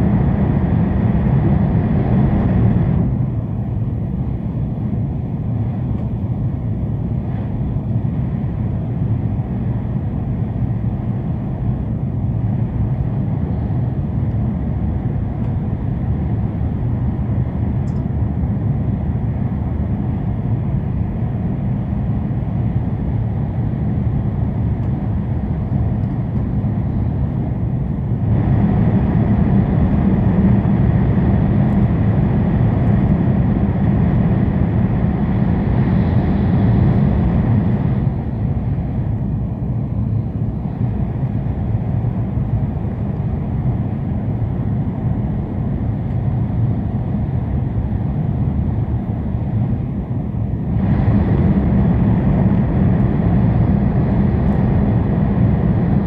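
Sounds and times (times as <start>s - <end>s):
train rumble inside cabin: 0.0s - 56.0s.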